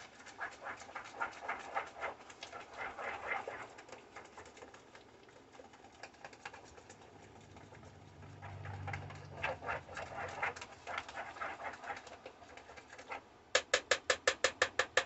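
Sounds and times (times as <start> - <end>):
spoon stirring thick batter: 0.0 - 15.0.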